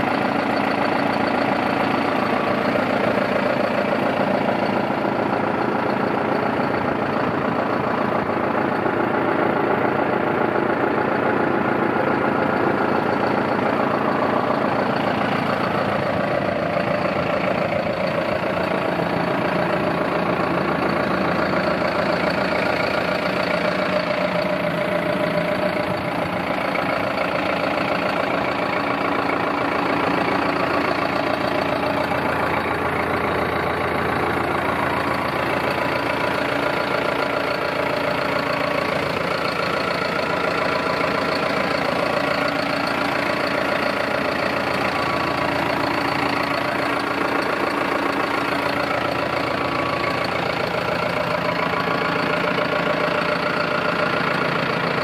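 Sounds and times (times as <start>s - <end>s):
diesel tractor engine idling: 0.0s - 55.0s.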